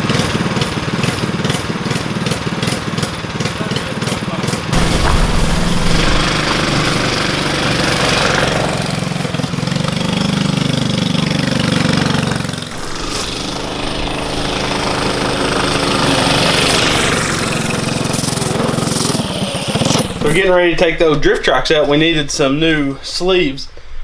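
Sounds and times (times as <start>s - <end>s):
small engine running and revving: 0.0s - 20.4s.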